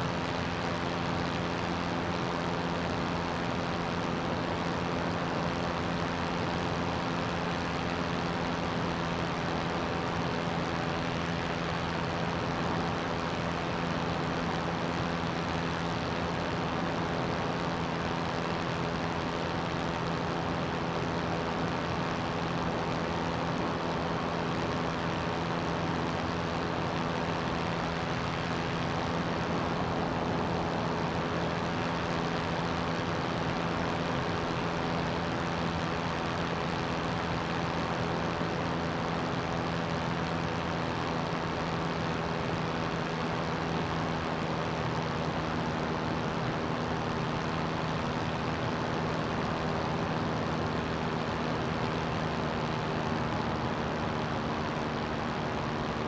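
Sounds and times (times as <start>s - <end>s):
aircraft engine droning: 0.0s - 56.0s.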